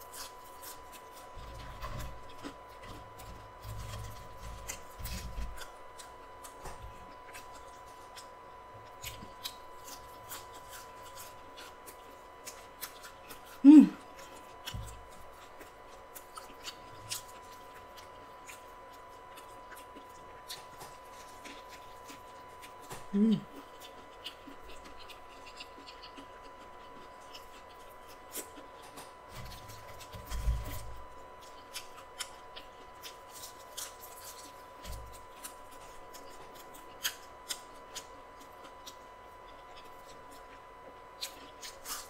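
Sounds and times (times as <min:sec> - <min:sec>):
chewing crispy food: 0:00.0 - 0:42.0.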